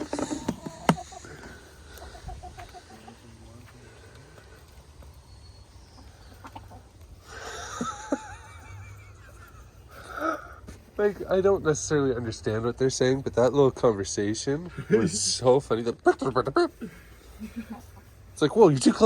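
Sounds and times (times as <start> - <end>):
hens clucking and chattering: 0.0 - 19.0.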